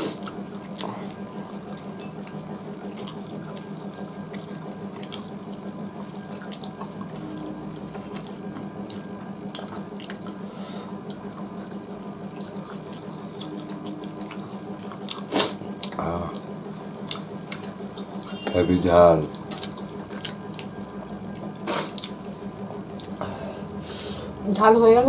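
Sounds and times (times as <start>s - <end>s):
wet chewing and lip-smacking: 0.0s - 24.1s
steady low hum: 0.0s - 25.0s.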